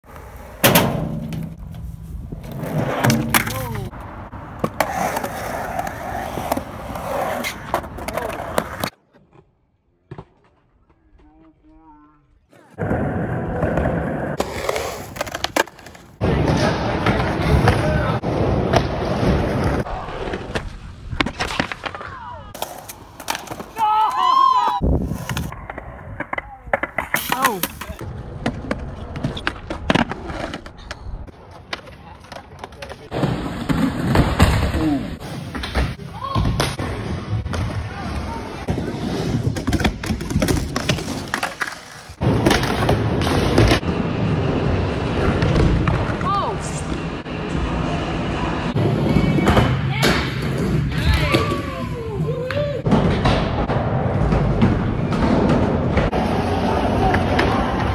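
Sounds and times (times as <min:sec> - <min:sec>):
skateboard wheels rolling: 0:00.0 - 0:11.3, 0:12.5 - 0:57.9.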